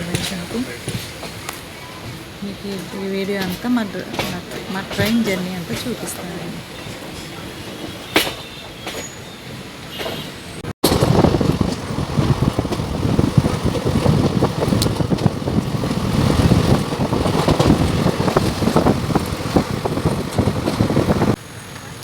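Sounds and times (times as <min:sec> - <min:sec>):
wind buffeting microphone: 0:00.0 - 0:08.4, 0:10.6 - 0:22.0
train rumbling: 0:00.0 - 0:22.0.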